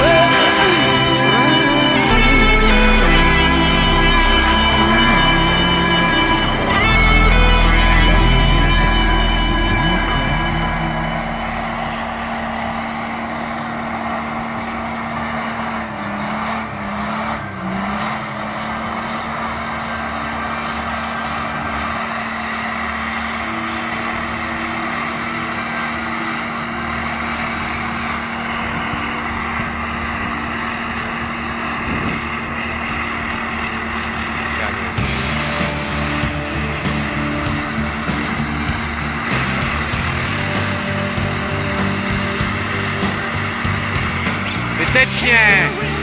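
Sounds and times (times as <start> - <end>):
engine running hard under load: 0.0 - 46.0.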